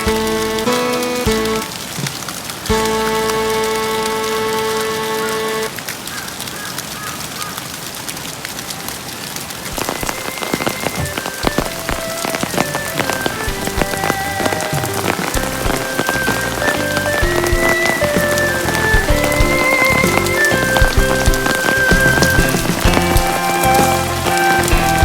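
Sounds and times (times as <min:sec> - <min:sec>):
faint tenor saxophone melody: 0:00.0 - 0:01.9, 0:02.7 - 0:05.9, 0:09.8 - 0:25.0
dense patter of small clicks: 0:00.0 - 0:25.0.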